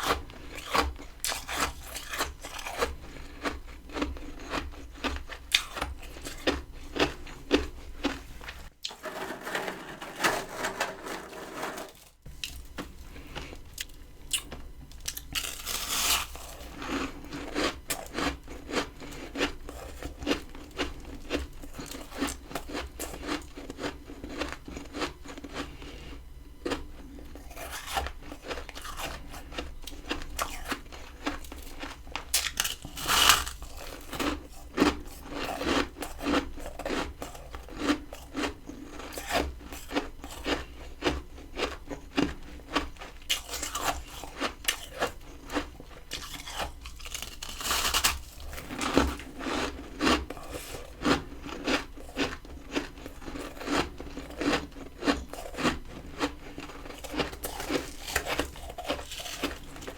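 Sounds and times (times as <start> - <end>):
crunching and chewing frost: 0.0 - 59.9.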